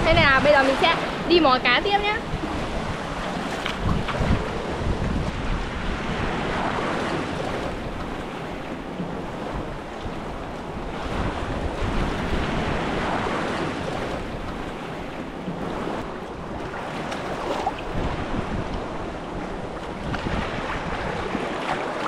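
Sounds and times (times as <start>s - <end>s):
surf washing on shore: 0.0s - 22.0s
wind buffeting microphone: 0.0s - 22.0s.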